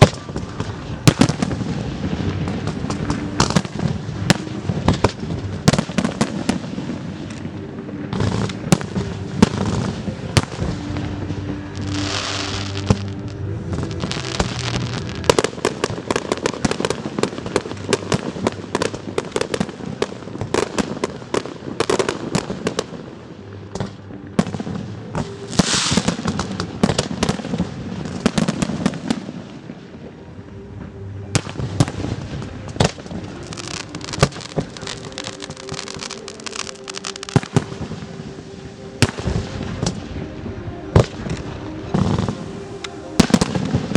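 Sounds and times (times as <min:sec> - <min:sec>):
fireworks banging and crackling: 0:00.0 - 0:43.9.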